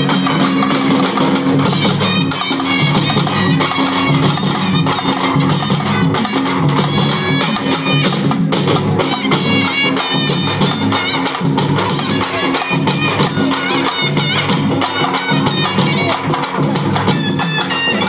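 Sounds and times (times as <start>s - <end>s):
frame drums beating folk rhythm: 0.0s - 18.0s
wind instrument melody: 0.0s - 18.0s.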